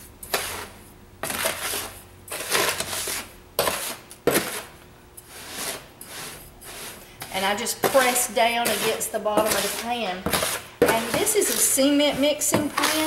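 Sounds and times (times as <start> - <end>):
metal spoon scraping coarse salt: 0.3 - 4.7, 5.3 - 13.0.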